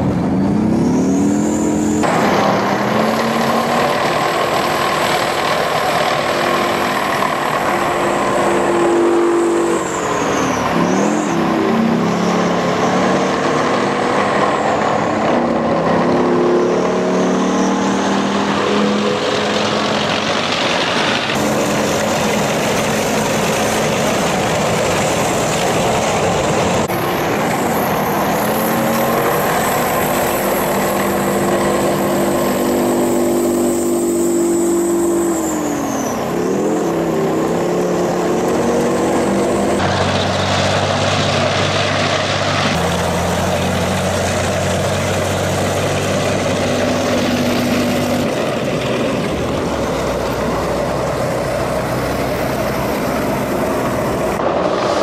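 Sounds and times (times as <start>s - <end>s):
military vehicles driving past: 0.0s - 55.0s.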